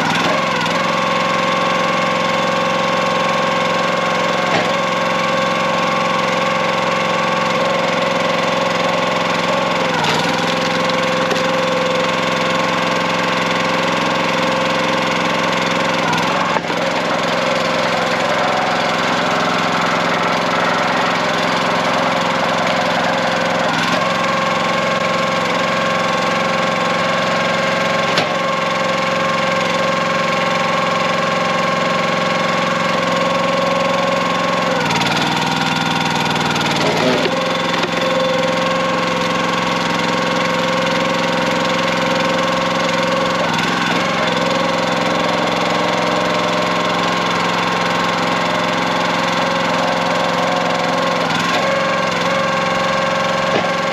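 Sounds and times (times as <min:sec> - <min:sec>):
small gas engine running: 0:00.0 - 0:53.9.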